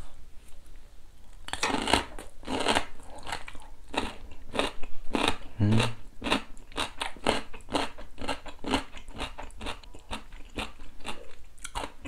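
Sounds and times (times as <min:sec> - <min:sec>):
crunchy food being chewed: 0:01.3 - 0:12.0.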